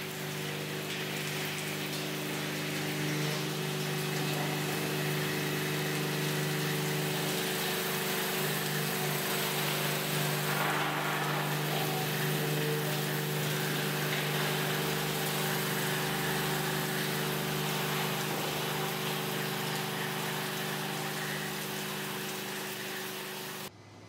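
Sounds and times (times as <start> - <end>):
electrical hum: 0.0 - 23.7.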